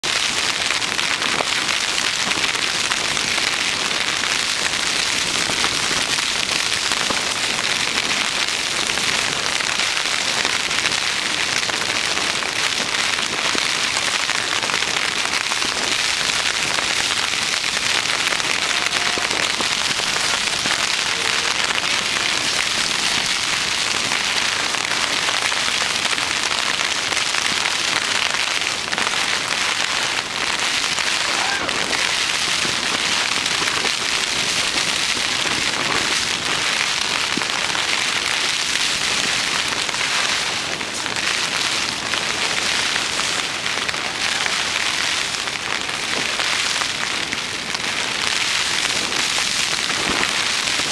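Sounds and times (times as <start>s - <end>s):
rain on tent fabric: 0.0s - 50.9s.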